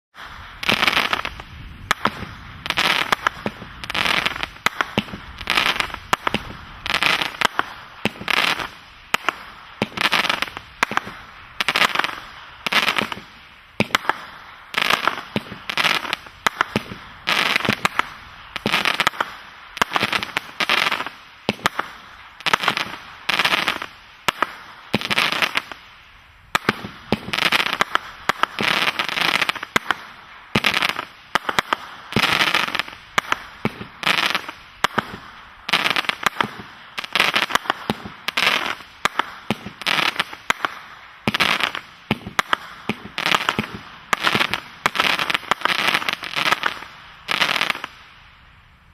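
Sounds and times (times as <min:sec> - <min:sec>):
fireworks cake firing shots: 0:00.1 - 0:25.9, 0:26.5 - 0:48.0
crackling sparks: 0:00.1 - 0:48.6.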